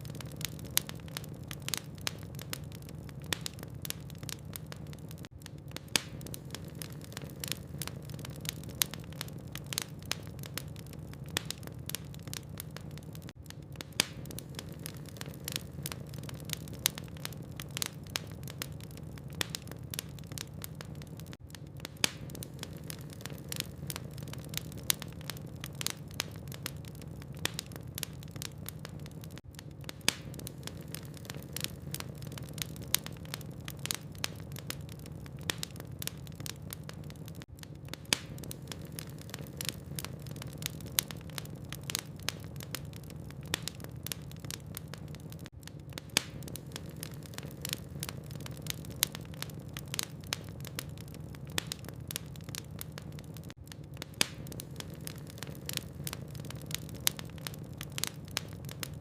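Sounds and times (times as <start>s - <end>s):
burning logs crackling: 0.0s - 59.0s.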